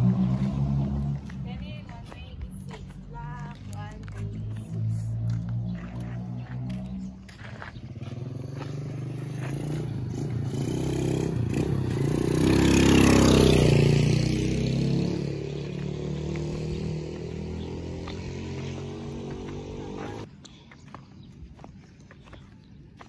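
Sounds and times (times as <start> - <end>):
motorcycle passing by: 0.0 - 20.3.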